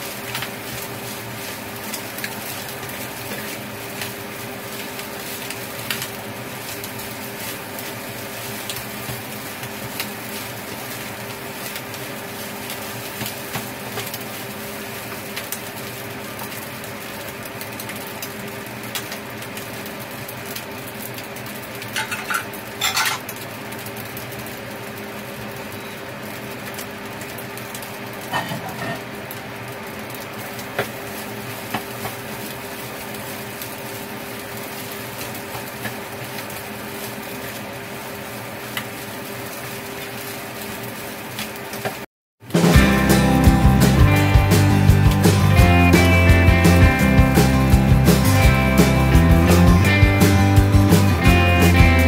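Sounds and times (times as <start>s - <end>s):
rice sizzling in a frying pan: 0.0s - 52.0s.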